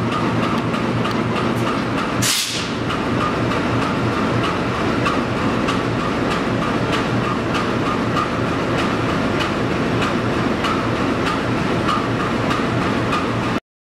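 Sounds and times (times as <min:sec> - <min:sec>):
diesel locomotive idling: 0:00.0 - 0:13.6.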